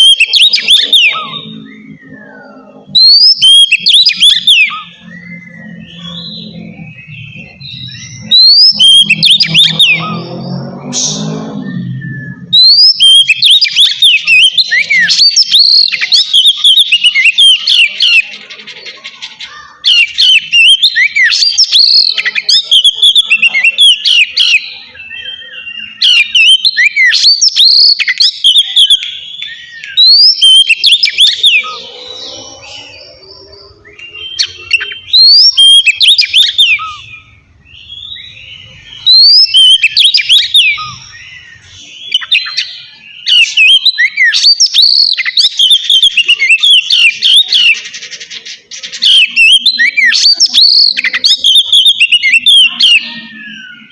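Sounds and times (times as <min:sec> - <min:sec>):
bird singing whistled song: 0:00.0 - 0:18.3, 0:19.5 - 0:53.9.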